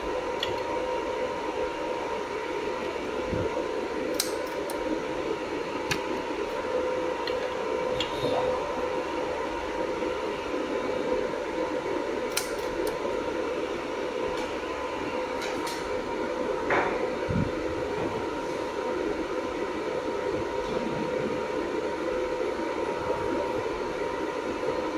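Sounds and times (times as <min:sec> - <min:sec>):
welding machine fan hum: 0:00.0 - 0:24.9.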